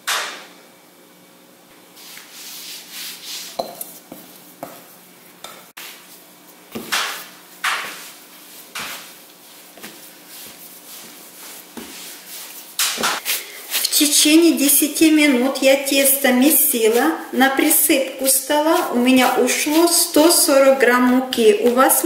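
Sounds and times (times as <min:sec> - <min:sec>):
flour rustling: 0:02.0 - 0:05.1, 0:05.8 - 0:22.0
dough kneaded by hand: 0:02.0 - 0:22.0.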